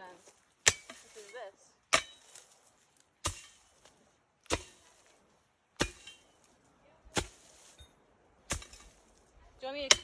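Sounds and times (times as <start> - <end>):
hand tool striking ground: 0.0 - 10.0.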